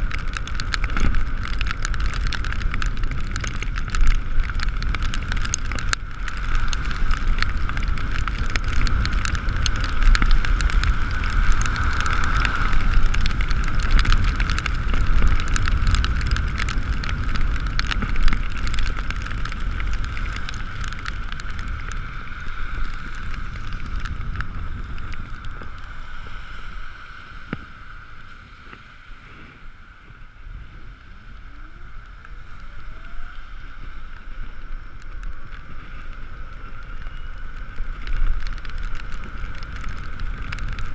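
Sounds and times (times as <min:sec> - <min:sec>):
wet road noise: 0:00.0 - 0:40.9
wind: 0:00.0 - 0:40.9.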